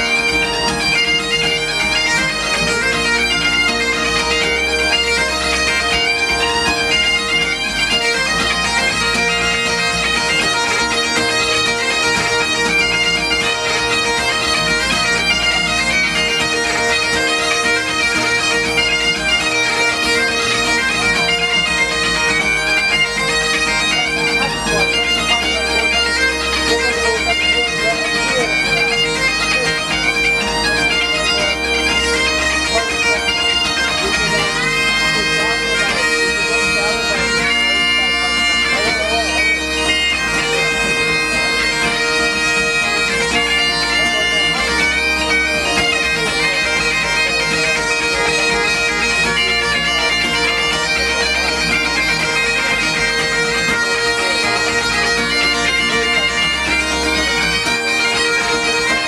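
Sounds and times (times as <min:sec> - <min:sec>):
acoustic guitar strumming: 0:00.0 - 0:59.0
bagpipe drone: 0:00.0 - 0:59.0
bagpipes playing dance tunes: 0:00.0 - 0:59.0.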